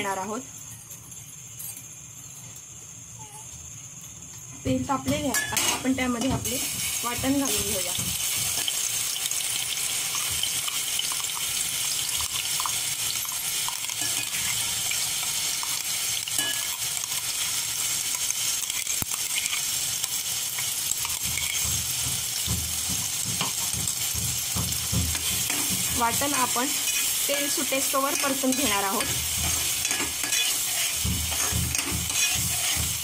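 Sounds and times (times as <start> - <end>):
paste sizzling in hot oil: 4.3 - 33.0.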